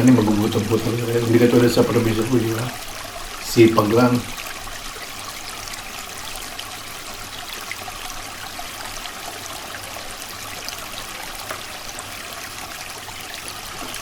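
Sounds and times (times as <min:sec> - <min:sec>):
creek water flowing: 0:00.0 - 0:14.0.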